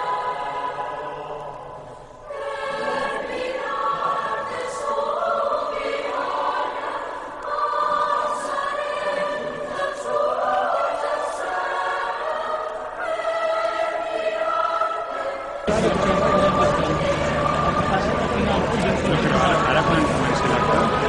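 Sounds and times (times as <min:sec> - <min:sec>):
choir singing sustained chords: 0:00.0 - 0:21.0.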